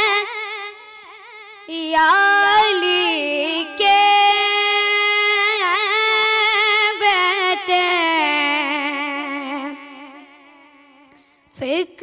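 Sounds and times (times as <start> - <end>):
boy singing a cappella: 0.0 - 12.0.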